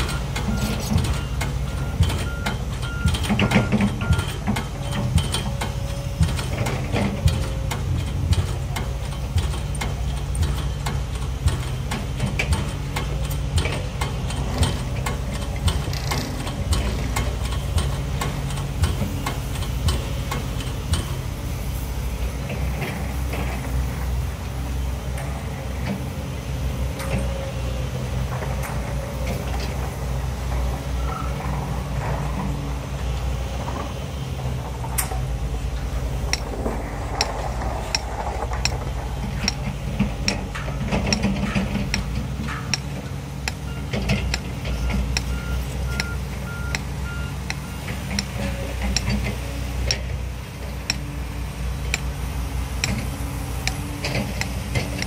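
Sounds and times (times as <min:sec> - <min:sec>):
heavy diesel machinery drone: 0:00.0 - 0:55.0.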